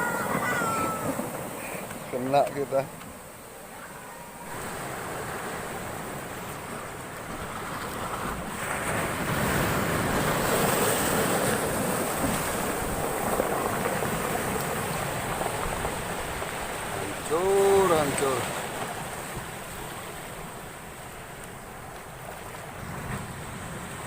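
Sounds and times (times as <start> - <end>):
storm wave breaking on shore: 0.0 - 24.0.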